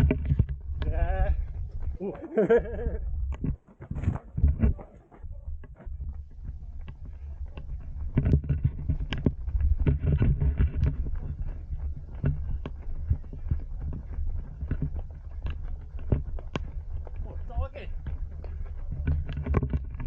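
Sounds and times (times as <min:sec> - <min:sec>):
running footsteps: 0:00.0 - 0:20.0
wind rumble on microphone: 0:00.0 - 0:20.0.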